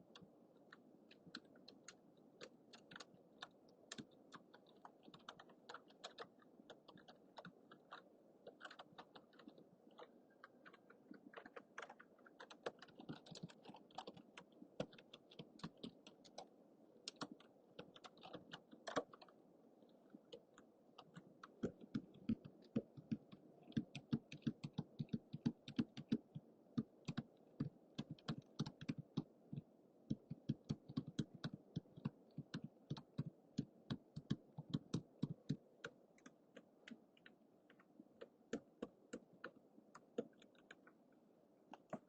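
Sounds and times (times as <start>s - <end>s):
faint background hiss: 0.0s - 42.0s
typing on a keyboard: 0.1s - 19.4s, 20.3s - 41.0s.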